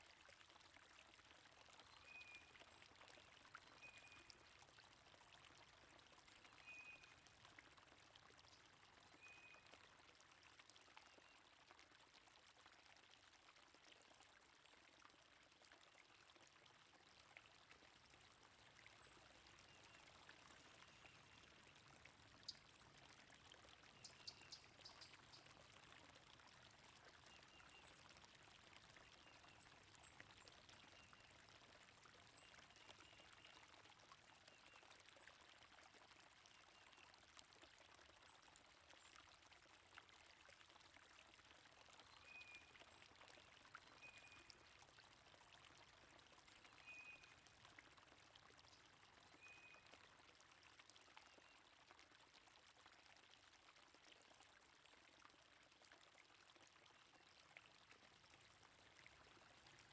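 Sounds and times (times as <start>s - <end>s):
flowing stream water: 0.0s - 59.9s.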